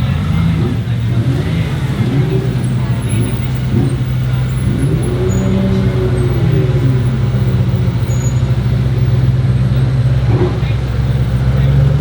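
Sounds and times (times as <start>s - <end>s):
car engine idling: 0.0s - 12.0s
higher engine tone: 0.0s - 12.0s.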